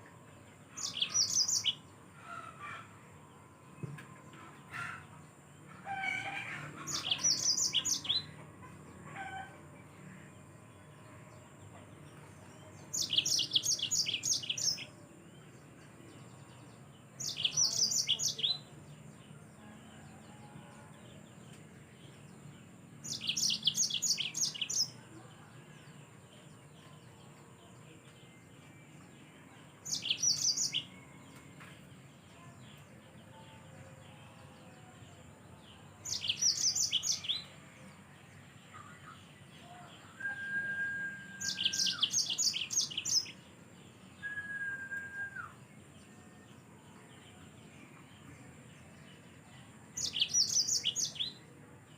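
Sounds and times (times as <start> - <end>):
bird twittering song: 0.0 - 2.4, 3.7 - 51.9.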